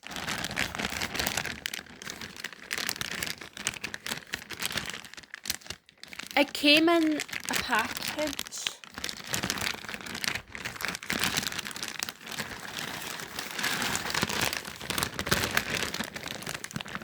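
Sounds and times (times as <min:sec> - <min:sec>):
packaging crinkling: 0:00.0 - 0:17.0
packaging tearing: 0:00.0 - 0:17.0.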